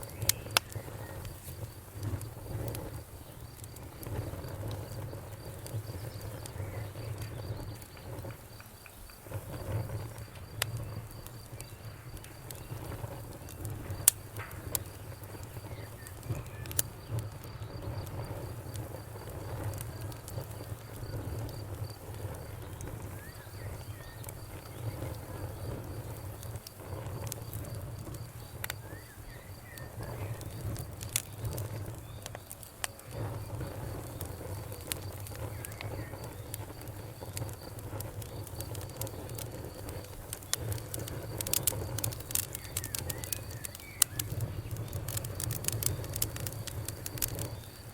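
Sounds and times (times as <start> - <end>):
cricket chirping: 0.0 - 47.9
fire popping: 0.0 - 47.9
wood fire crackling: 0.0 - 47.9.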